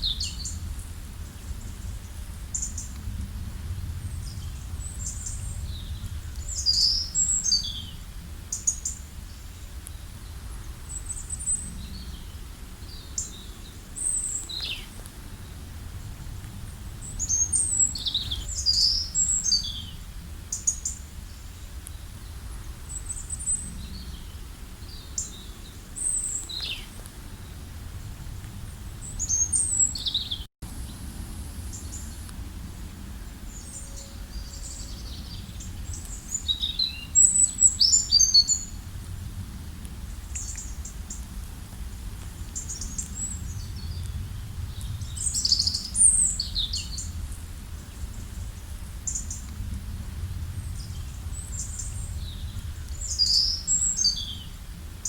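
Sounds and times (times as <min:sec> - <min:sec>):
small birds chirping: 0:00.0 - 0:03.0, 0:04.0 - 0:15.8, 0:16.6 - 0:27.8, 0:28.6 - 0:31.0, 0:33.2 - 0:38.8, 0:40.0 - 0:54.8
steady low rumble: 0:00.0 - 0:55.0.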